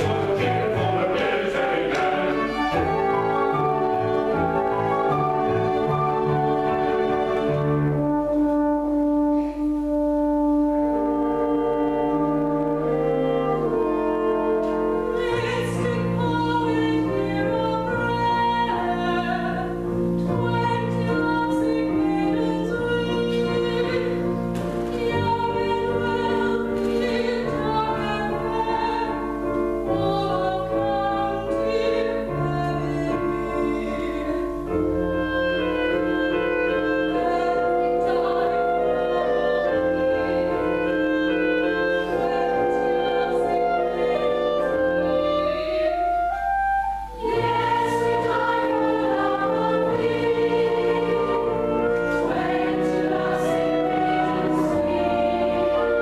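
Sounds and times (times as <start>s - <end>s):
chorus singing: 0.0s - 8.2s, 11.2s - 56.0s
orchestra playing: 0.0s - 56.0s.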